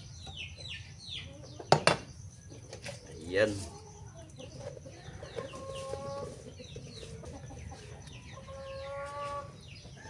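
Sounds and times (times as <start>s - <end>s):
chickens clucking and calling: 0.0s - 10.0s.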